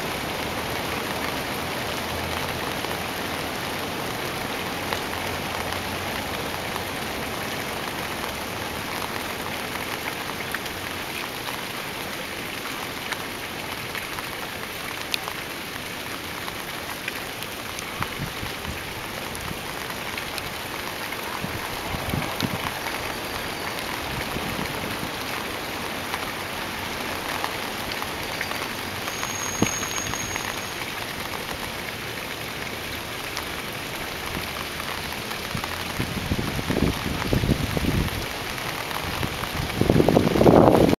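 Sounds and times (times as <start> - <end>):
rain falling into puddle: 0.0 - 40.9.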